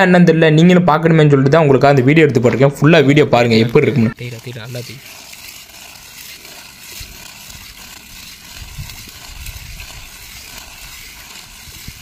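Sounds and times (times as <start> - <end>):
brick scraping on concrete: 2.3 - 12.0.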